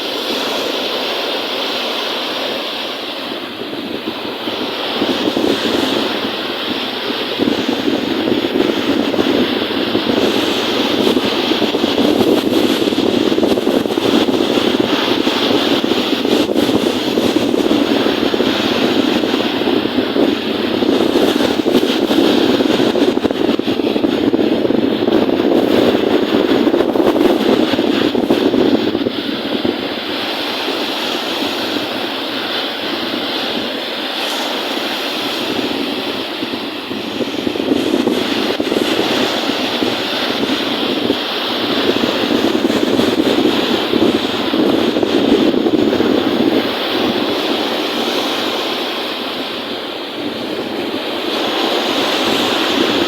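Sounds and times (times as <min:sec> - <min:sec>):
waves washing on a lake: 0:00.0 - 0:53.0
wind rushing over microphone: 0:00.0 - 0:53.0.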